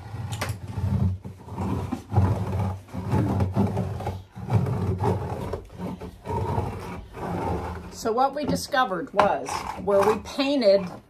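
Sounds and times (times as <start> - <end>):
scraper rasping on wallpaper: 0.0 - 11.0.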